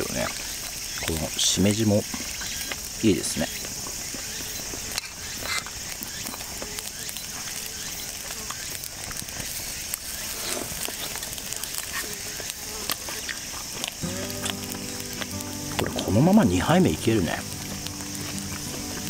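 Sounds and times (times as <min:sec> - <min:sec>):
high-pitched hiss: 0:00.0 - 0:19.0
small clicks and crackles: 0:00.0 - 0:19.0.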